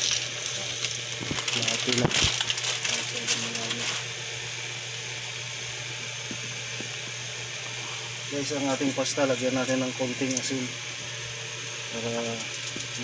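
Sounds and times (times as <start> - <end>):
boiling water hissing: 0.0 - 13.0.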